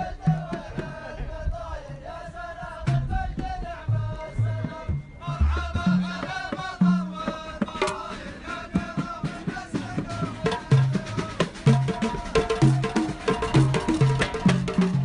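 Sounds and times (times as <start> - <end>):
drums: 0.0 - 15.0
voices singing: 0.0 - 15.0.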